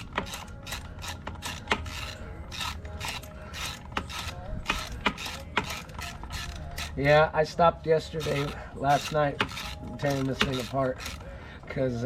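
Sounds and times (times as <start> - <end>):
ratchet wrench clicking: 0.0 - 7.0, 8.2 - 11.2.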